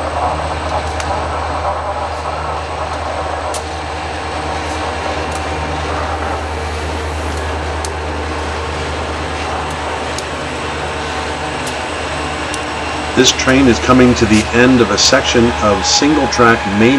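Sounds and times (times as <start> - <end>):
diesel locomotive engine rumble: 0.0 - 16.9.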